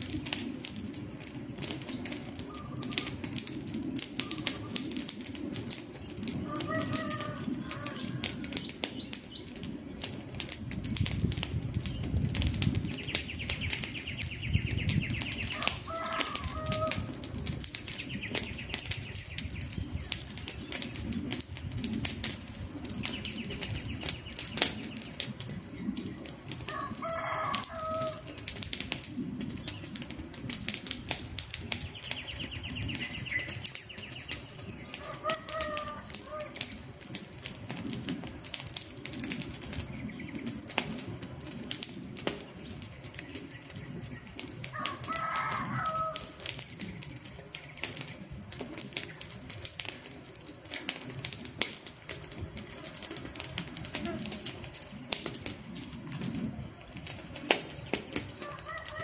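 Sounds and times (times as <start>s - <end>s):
rush of flames: 0.0s - 59.0s
wood fire crackling and popping: 0.0s - 59.0s.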